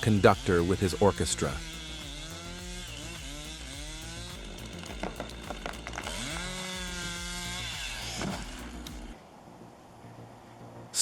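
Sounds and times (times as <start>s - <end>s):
chainsaw engine revving: 0.0s - 9.2s.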